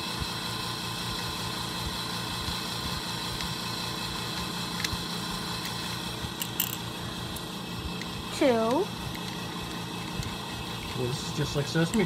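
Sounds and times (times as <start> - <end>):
fan-like hum and hiss: 0.0 - 12.0.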